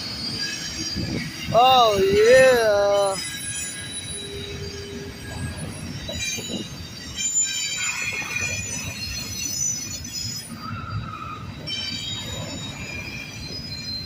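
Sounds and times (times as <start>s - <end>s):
train wheels squealing: 0.0s - 1.6s, 2.4s - 14.0s
train low rumble: 0.0s - 14.0s.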